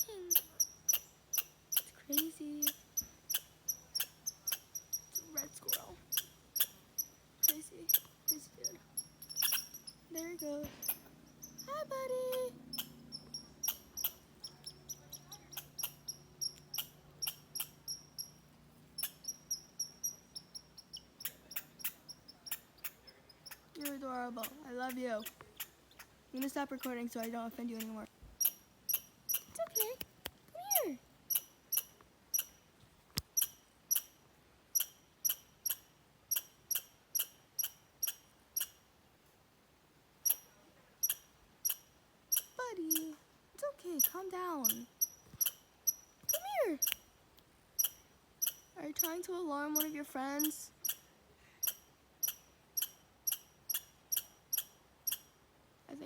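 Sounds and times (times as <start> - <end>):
squirrel alarm chips: 0.0 - 18.4, 19.0 - 32.6, 40.2 - 47.1, 47.8 - 55.3.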